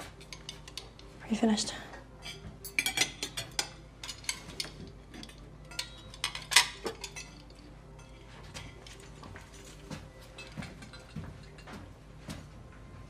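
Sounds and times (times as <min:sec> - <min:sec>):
cutlery and plates clinking: 0:00.0 - 0:01.1, 0:02.2 - 0:11.9.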